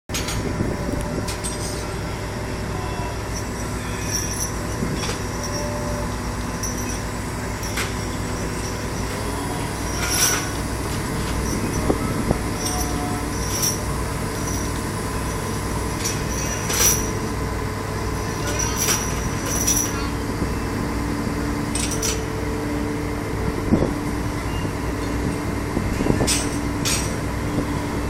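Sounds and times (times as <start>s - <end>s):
heavy machinery rumble: 0.1s - 28.0s.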